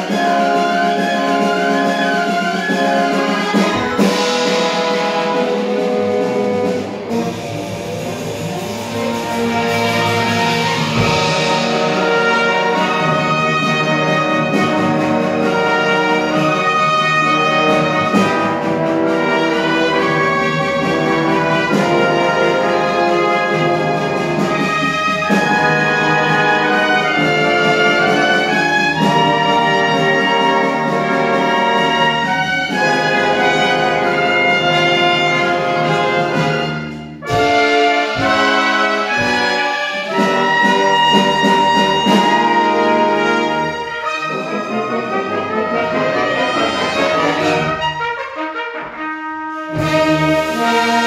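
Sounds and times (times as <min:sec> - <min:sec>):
solo trumpet: 0:00.0 - 0:51.0
symphony orchestra playing: 0:00.0 - 0:51.0.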